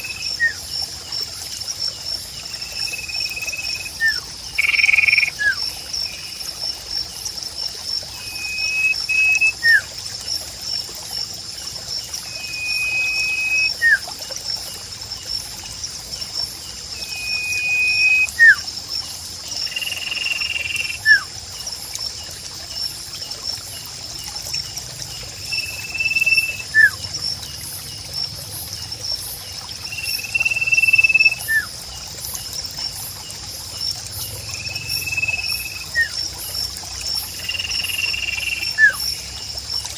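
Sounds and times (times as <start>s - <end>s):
high insect trill: 0.0s - 39.9s
trickling water: 0.0s - 39.9s.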